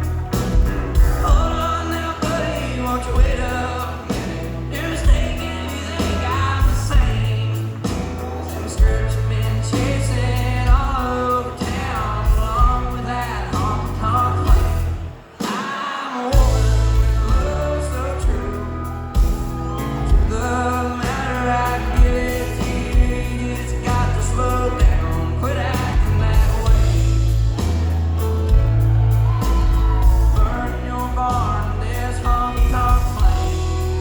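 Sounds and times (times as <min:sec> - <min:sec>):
bass and drums: 0:00.0 - 0:15.6, 0:16.4 - 0:34.0
man singing: 0:00.0 - 0:34.0.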